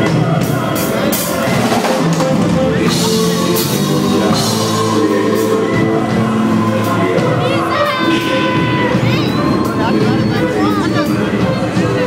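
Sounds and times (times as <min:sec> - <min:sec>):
drum kit: 0:00.0 - 0:12.0
live band music: 0:00.0 - 0:12.0.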